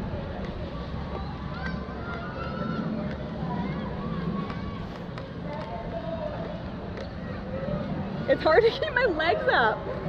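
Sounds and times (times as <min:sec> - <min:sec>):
city noise: 0:00.0 - 0:10.0
faint distant voices: 0:00.0 - 0:10.0.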